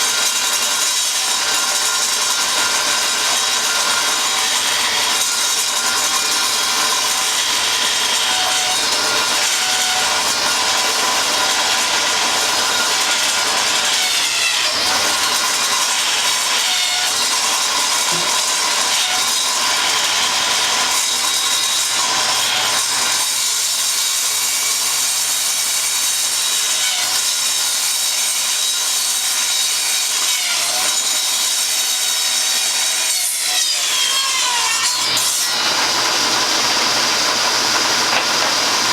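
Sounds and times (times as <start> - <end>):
table saw ripping board: 0.0 - 38.9.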